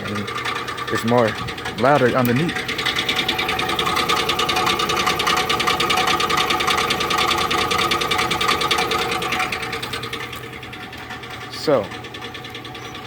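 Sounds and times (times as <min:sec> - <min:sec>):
engine running with ticking clatter: 0:00.0 - 0:13.0.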